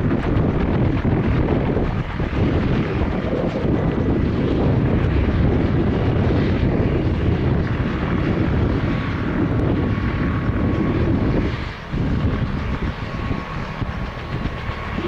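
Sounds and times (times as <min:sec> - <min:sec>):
faint turbine whine: 0:00.0 - 0:15.0
helicopter engine and rotor rumble: 0:00.0 - 0:15.0.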